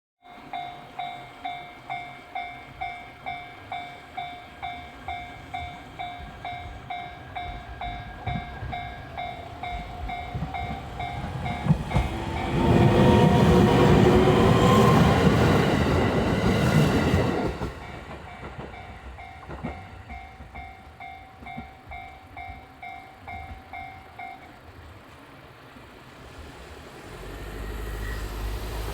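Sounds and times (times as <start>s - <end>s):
train passing: 0.2s - 28.9s.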